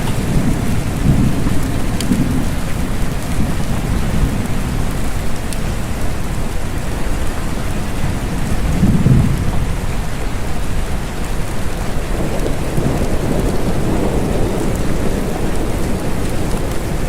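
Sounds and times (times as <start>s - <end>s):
distant thunder rumbling: 0.0s - 17.0s
steady rain falling: 0.0s - 17.0s.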